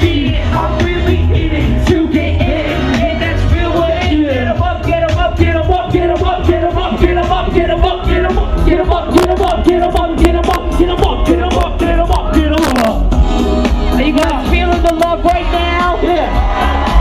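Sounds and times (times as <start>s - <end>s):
hip hop music: 0.0s - 17.0s
vocals over beat: 0.0s - 17.0s.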